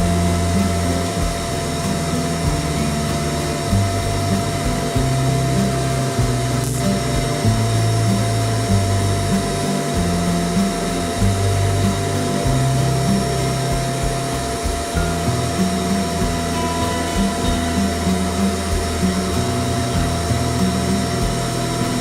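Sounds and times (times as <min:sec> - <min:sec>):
background music with bassline: 0:00.0 - 0:22.0
electric motor hum: 0:00.0 - 0:22.0.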